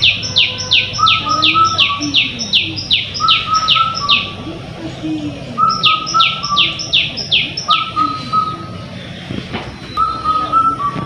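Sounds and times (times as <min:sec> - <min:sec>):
high bird chirps: 0:00.0 - 0:04.5, 0:05.6 - 0:08.8, 0:09.7 - 0:11.0.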